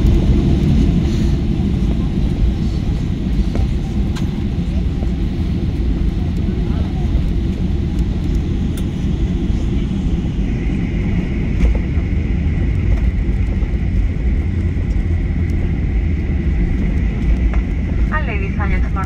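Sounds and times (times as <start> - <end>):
heavy rumble of aircraft rolling: 0.0 - 19.0
high engine whine: 0.0 - 19.0.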